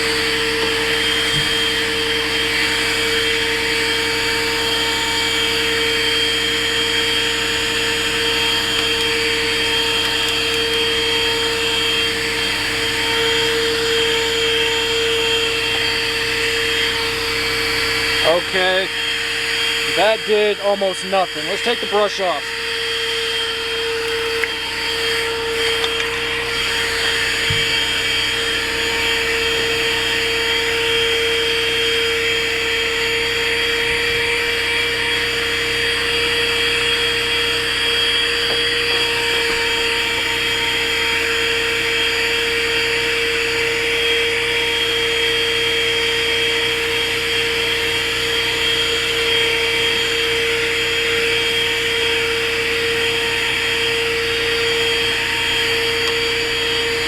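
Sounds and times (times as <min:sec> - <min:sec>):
car vacuum motor whine: 0:00.0 - 0:57.0.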